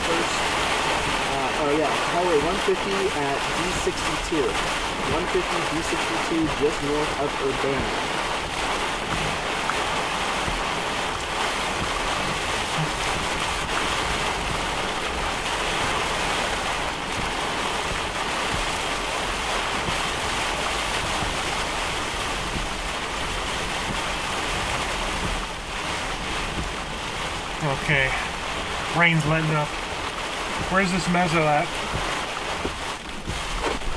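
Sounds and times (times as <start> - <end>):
heavy rain on car roof: 0.0 - 33.9.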